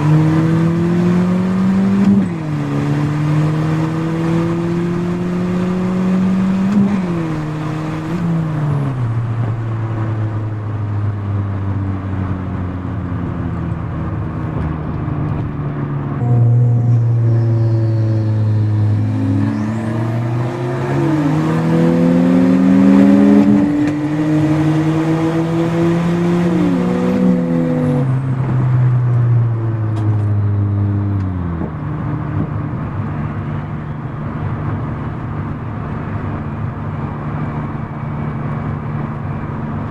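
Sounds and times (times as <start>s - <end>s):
car engine revving: 0.0s - 10.9s, 13.2s - 39.9s.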